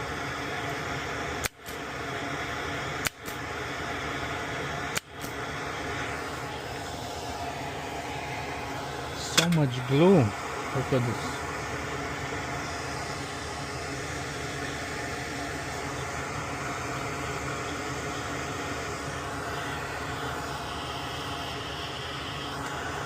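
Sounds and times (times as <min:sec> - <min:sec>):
steady mechanical hum and hiss: 0:00.0 - 0:23.0.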